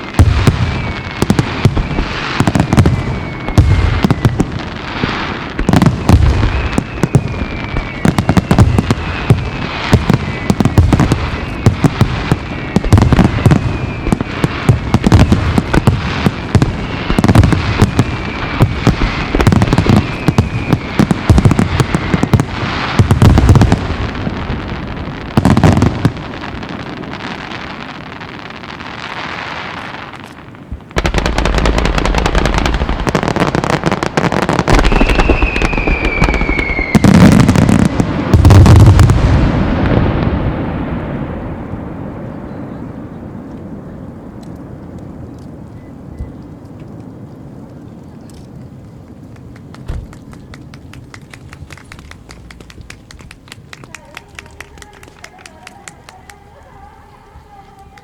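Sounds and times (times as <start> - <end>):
falling fireworks whistles: 0.0 - 58.0
fireworks bursts and bangs: 0.0 - 58.0.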